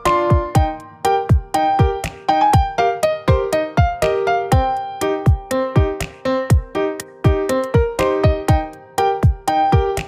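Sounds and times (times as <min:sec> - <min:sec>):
keyboard chords: 0:00.0 - 0:10.0
kick drum beat: 0:00.0 - 0:10.0.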